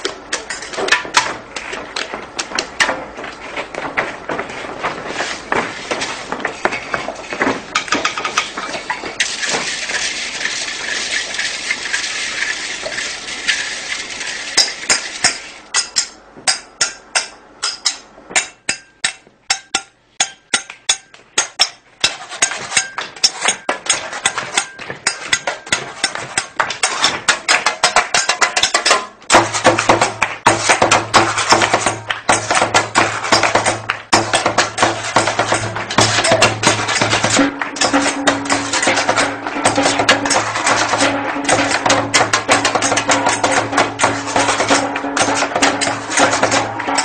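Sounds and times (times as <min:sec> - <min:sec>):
pots and pans clanking: 0:05.9 - 0:47.0.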